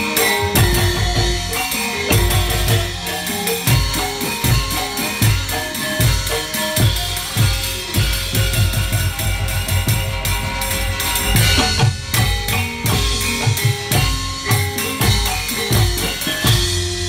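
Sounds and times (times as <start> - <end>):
rapid loud drum strokes: 0.0 - 17.0
ringing metallophone tones: 0.0 - 17.0.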